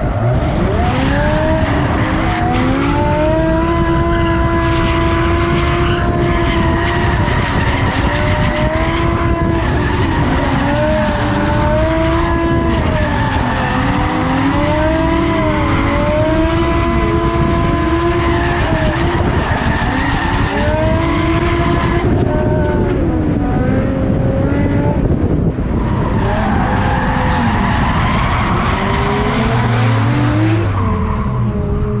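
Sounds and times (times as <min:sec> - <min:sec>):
car engine revving: 0:00.0 - 0:32.0
drone whine: 0:00.0 - 0:32.0
tyres skidding and squealing: 0:00.0 - 0:32.0.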